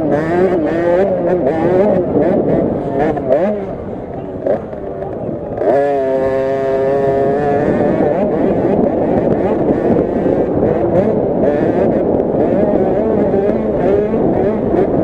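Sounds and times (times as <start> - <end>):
minibike engines revving: 0.0 - 15.0.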